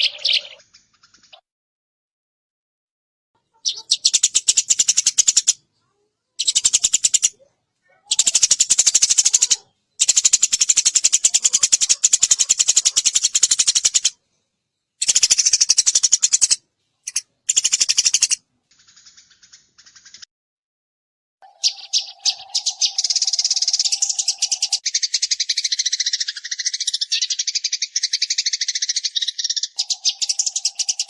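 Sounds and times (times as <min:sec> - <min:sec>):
sparrow chattering trills: 0:00.0 - 0:01.4, 0:03.4 - 0:14.2, 0:15.0 - 0:20.3, 0:21.4 - 0:31.0.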